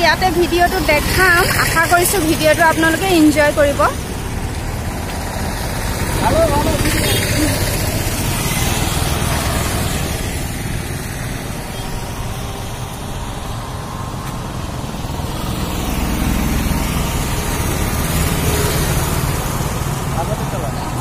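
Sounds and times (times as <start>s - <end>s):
motorcycle and rickshaw engines: 0.0s - 21.0s
tyres passing: 0.0s - 21.0s.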